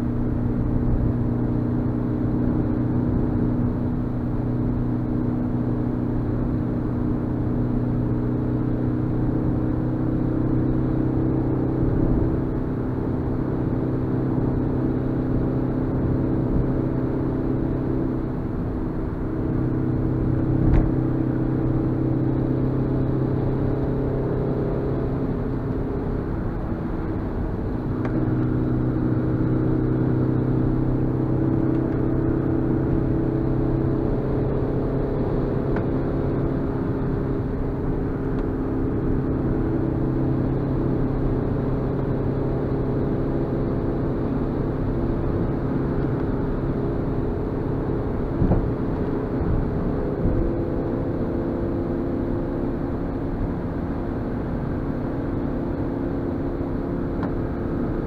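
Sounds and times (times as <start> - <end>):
car engine pulling uphill: 0.0 - 58.0
road noise: 0.0 - 58.0.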